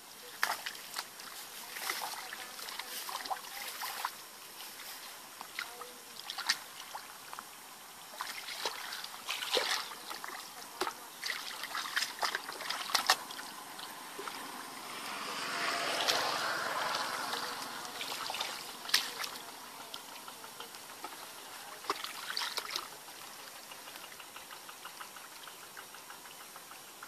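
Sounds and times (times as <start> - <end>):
splashing in shallow water: 0.0 - 25.4.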